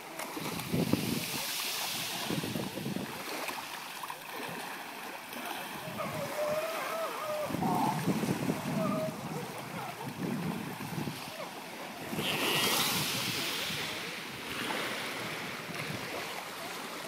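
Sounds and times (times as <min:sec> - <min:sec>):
small waves lapping on shore: 0:00.0 - 0:17.0
wind on microphone: 0:00.4 - 0:03.5, 0:05.7 - 0:17.0.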